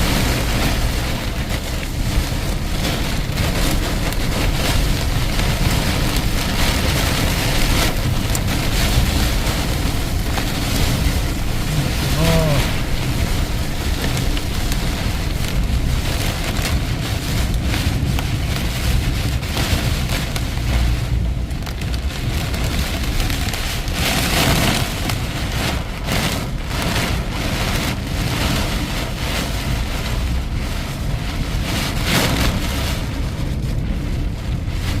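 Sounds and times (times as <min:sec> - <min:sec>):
heavy rain and hail pelting: 0:00.0 - 0:35.0
low rumble of wind: 0:00.0 - 0:35.0.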